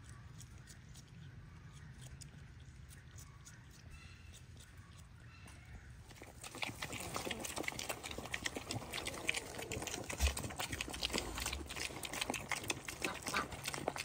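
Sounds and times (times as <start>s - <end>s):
piglets crunching and chewing: 0.0s - 14.0s.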